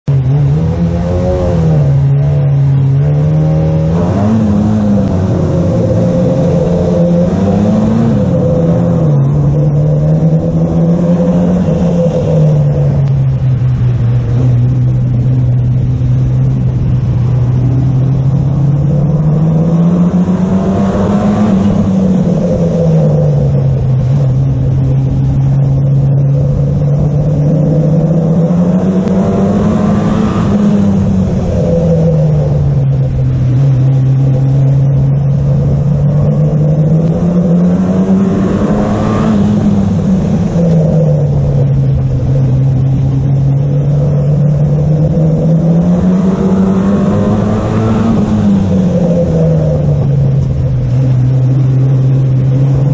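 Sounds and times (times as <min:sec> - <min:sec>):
race car engine accelerating: 0:00.0 - 0:52.9.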